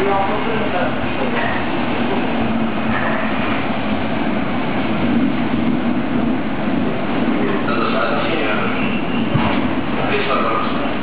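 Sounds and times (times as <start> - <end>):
train wheels on rail: 0.0 - 11.0.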